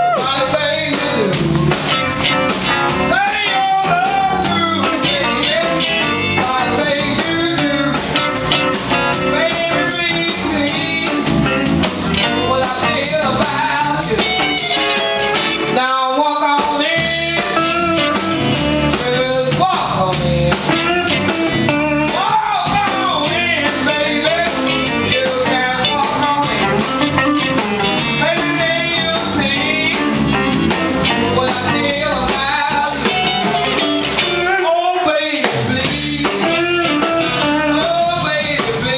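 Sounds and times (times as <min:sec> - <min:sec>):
blues band playing: 0:00.0 - 0:38.9.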